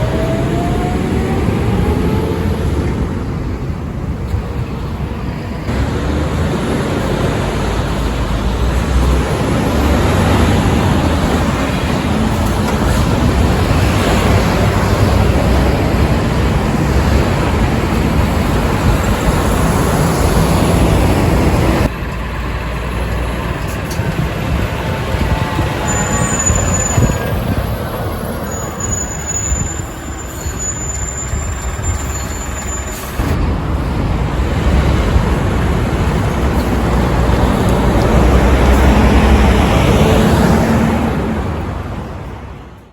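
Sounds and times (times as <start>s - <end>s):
heavy trucks driving past: 0.0s - 42.9s.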